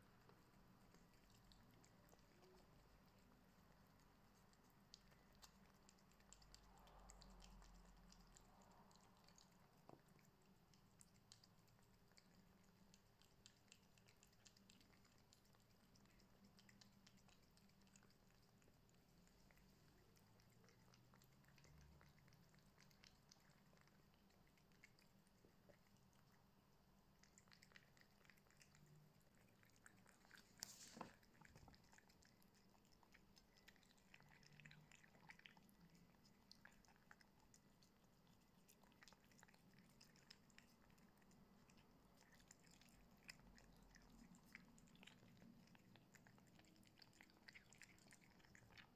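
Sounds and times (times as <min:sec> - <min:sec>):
cats chewing and lip-smacking: 0:00.0 - 0:48.9.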